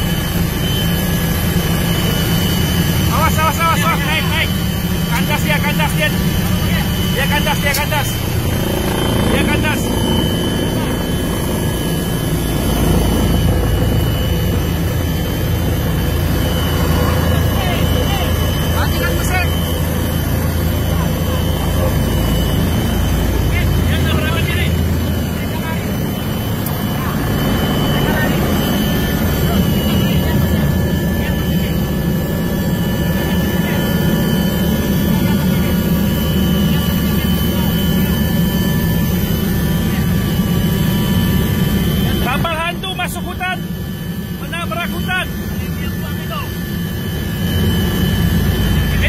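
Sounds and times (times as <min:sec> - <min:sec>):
helicopter cabin rumble and whine: 0:00.0 - 0:49.0.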